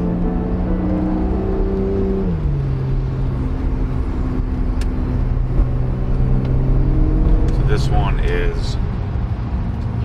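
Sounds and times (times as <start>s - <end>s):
car engine drone inside cabin: 0.0s - 10.0s.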